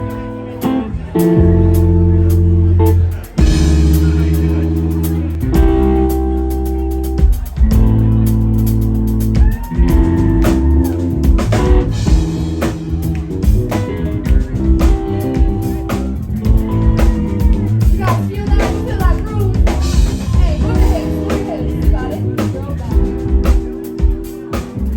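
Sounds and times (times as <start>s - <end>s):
live rock band playing: 0.0s - 24.9s.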